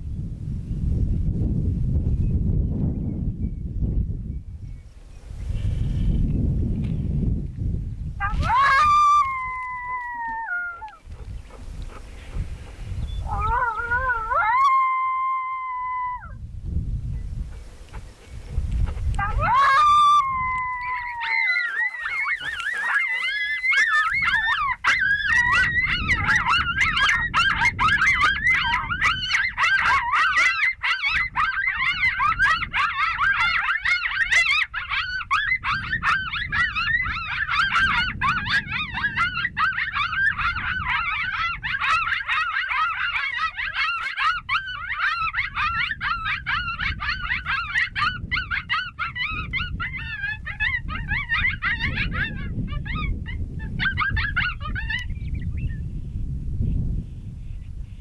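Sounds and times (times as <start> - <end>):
coyotes howling and yipping: 8.2 - 16.4, 17.4 - 55.7.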